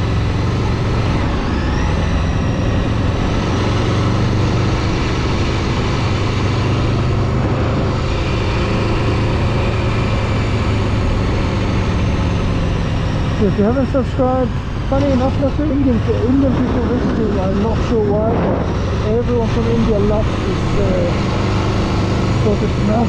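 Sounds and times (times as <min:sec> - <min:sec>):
road and wind noise: 0:00.0 - 0:23.0
vehicle engine running: 0:00.0 - 0:23.0.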